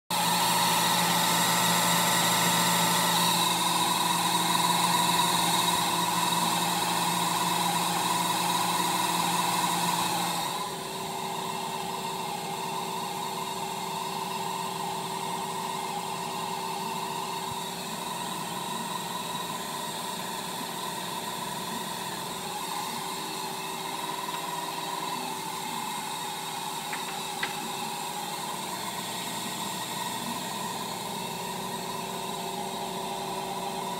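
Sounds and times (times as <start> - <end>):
computer hum and whir: 0.1 - 33.9.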